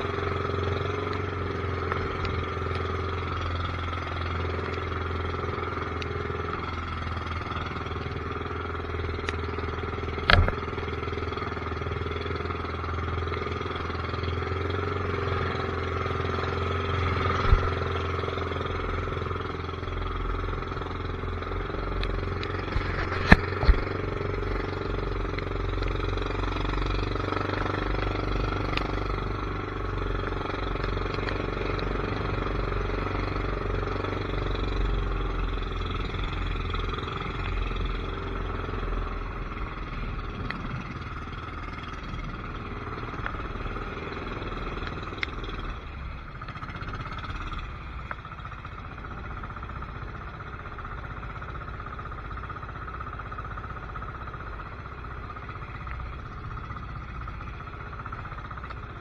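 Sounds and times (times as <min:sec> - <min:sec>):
vehicle engine drone: 0:00.0 - 0:59.0.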